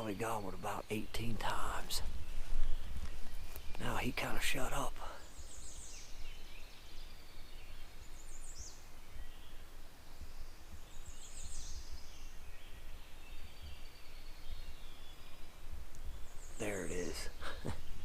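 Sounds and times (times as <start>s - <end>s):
soft bird chirps: 0.0s - 18.0s
songbirds singing: 0.0s - 18.0s
wind rumbling on microphone: 0.0s - 18.0s.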